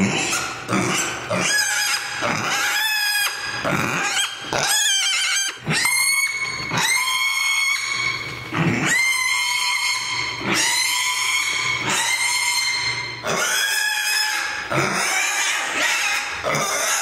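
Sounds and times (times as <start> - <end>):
pig squealing: 0.0 - 17.0.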